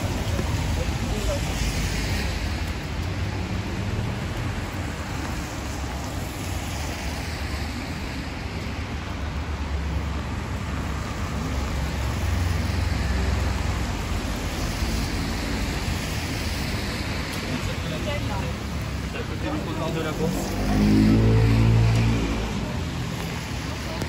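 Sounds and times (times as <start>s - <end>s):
car tyres on wet pavement: 0.0s - 24.0s
low traffic rumble: 0.0s - 24.0s
rain hiss: 0.0s - 24.0s.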